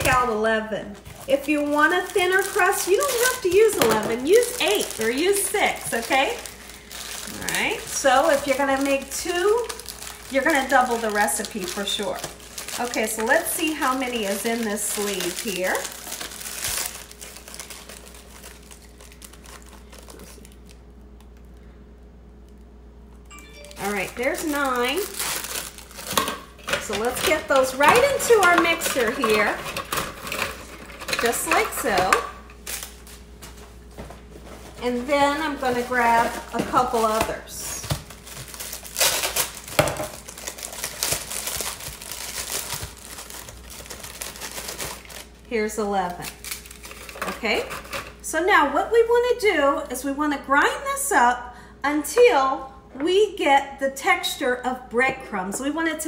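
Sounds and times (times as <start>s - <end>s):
plastic wrapper crinkling: 0.0s - 21.6s, 23.4s - 48.2s
steady low hum: 0.0s - 56.0s.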